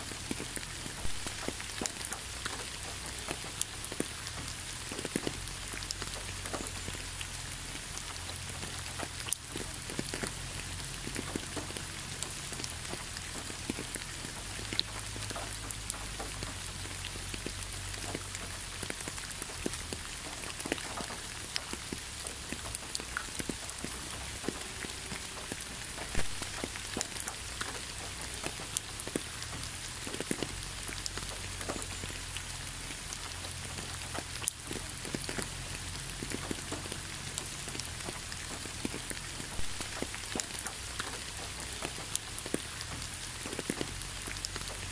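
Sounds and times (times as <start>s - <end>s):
rain on leaves: 0.0s - 44.9s.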